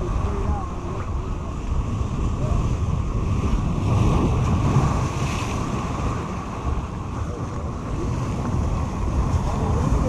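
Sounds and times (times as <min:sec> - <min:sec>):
surf breaking over rocks: 0:00.0 - 0:10.0
wind buffeting microphone: 0:00.0 - 0:10.0.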